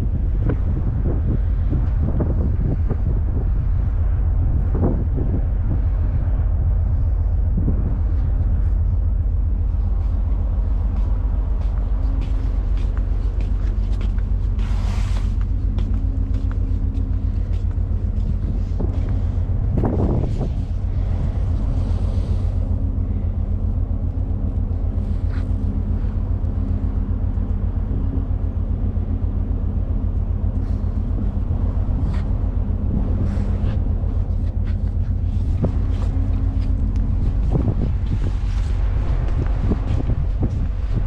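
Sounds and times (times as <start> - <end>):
low engine drone: 0.0 - 41.0
wind rumble: 0.0 - 41.0.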